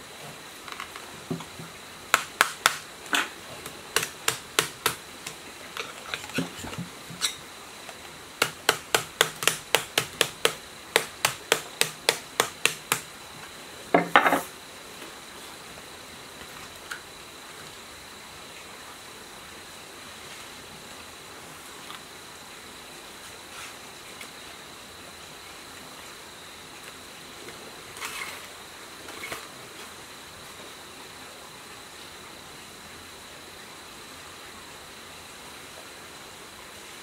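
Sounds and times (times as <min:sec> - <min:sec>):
faint background hiss: 0:00.0 - 0:37.0.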